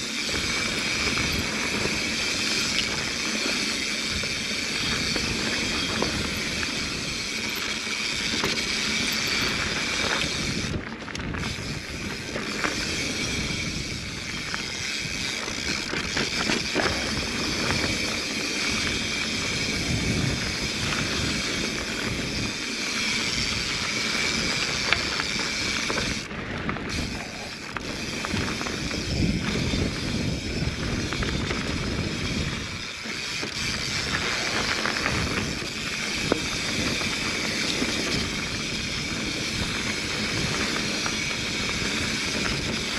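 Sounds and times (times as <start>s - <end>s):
wind rushing on microphone: 0.0s - 7.6s, 8.2s - 42.9s
bike knocks and rattles: 0.0s - 42.9s
bike tyre and drivetrain noise: 0.0s - 42.9s.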